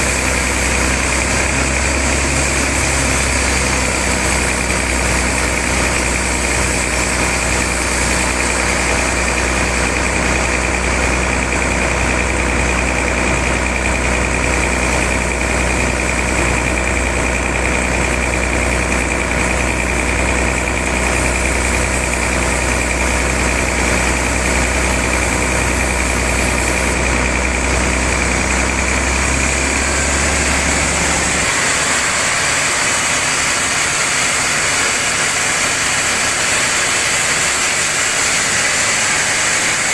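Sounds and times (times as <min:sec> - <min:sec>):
sawmill machinery deep hum: 0:00.0 - 0:39.9
sawmill machinery high whine: 0:00.0 - 0:39.9.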